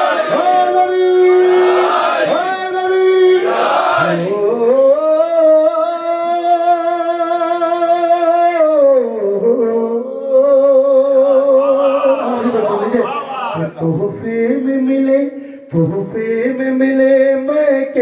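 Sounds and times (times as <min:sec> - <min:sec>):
man singing into a microphone: 0:00.3 - 0:01.7, 0:02.3 - 0:18.0.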